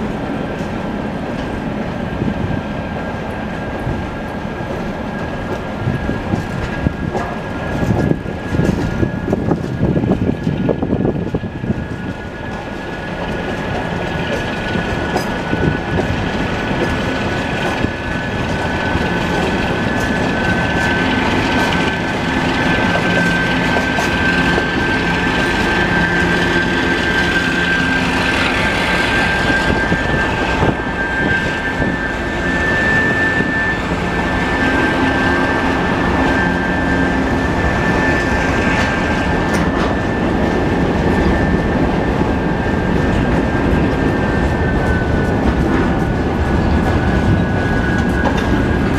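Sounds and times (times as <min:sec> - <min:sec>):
diesel locomotive engines running: 0:00.0 - 0:48.9
steady high whine: 0:00.0 - 0:48.9
train wagons rolling over rails: 0:00.0 - 0:48.9.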